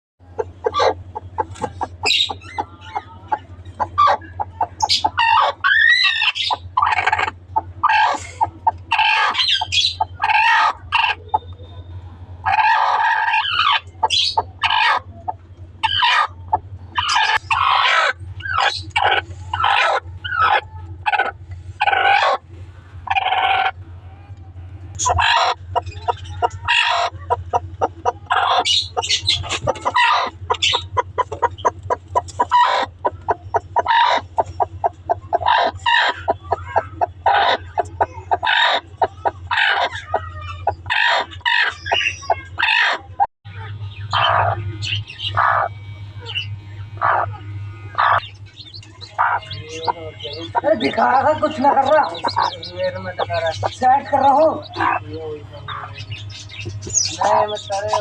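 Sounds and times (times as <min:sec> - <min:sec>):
parrots chattering and squawking: 0:00.2 - 0:11.5, 0:12.4 - 0:23.8, 0:25.0 - 0:58.0
steady low hum: 0:00.2 - 0:58.0.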